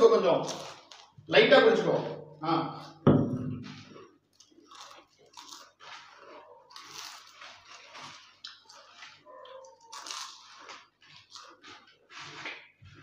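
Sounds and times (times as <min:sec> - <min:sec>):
potato chips crunching: 0:00.1 - 0:01.2, 0:03.7 - 0:13.0.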